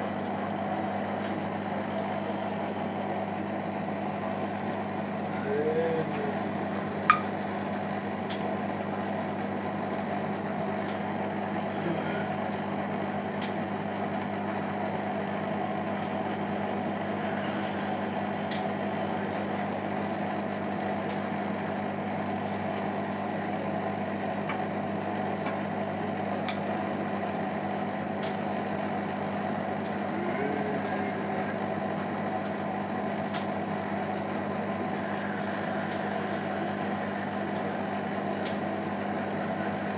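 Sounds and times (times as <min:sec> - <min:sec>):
washing machine spin hum: 0:00.0 - 0:39.9.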